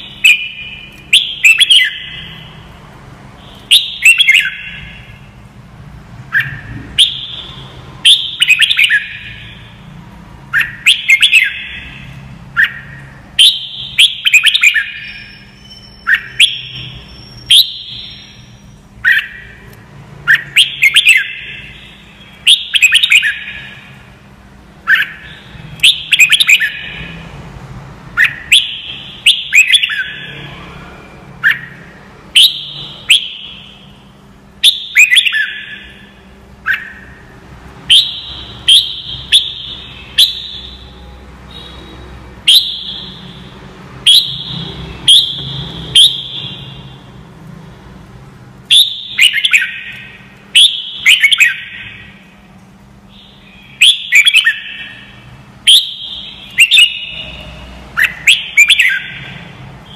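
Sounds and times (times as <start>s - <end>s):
bird singing whistled phrases: 0.0s - 2.6s, 3.4s - 5.2s, 6.3s - 9.6s, 10.5s - 19.7s, 20.3s - 23.9s, 24.9s - 27.2s, 28.2s - 30.4s, 31.4s - 34.0s, 34.6s - 37.2s, 37.9s - 43.5s, 44.1s - 47.0s, 48.7s - 52.2s, 53.1s - 59.9s.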